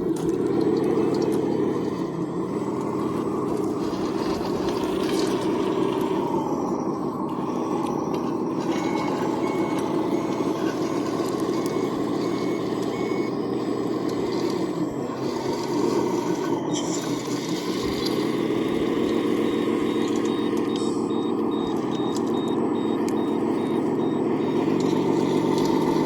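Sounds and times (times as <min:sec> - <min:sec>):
model machines mechanical drone: 0:00.0 - 0:26.0
reversing beeper: 0:00.0 - 0:26.0
higher-pitched beeping: 0:01.6 - 0:26.0.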